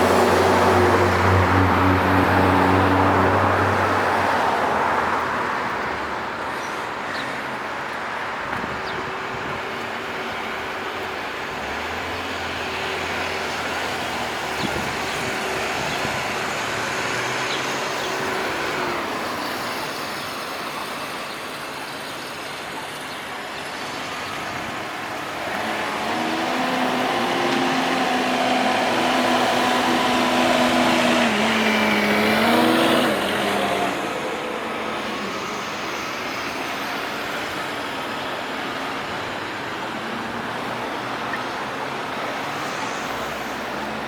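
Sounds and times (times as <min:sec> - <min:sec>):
passing vehicles: 0:00.0 - 0:44.0.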